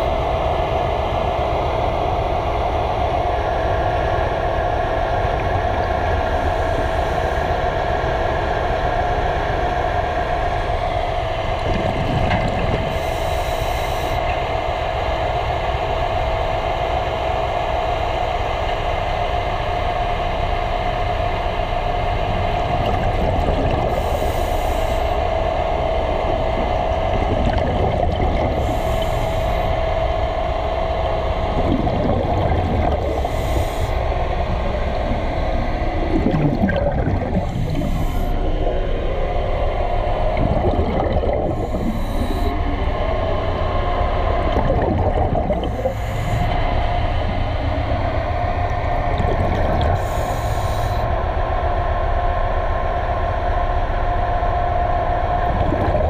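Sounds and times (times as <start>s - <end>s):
underwater propeller rush and hum: 0.0s - 56.0s.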